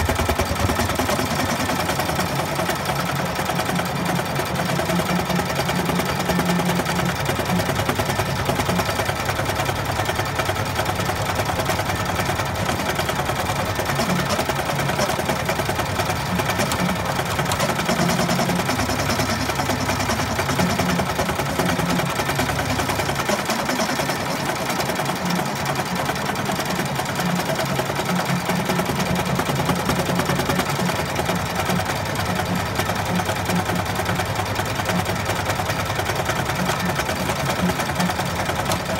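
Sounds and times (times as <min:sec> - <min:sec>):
embroidery machine stitching clatter: 0:00.0 - 0:38.9
machine motor running: 0:00.0 - 0:38.9.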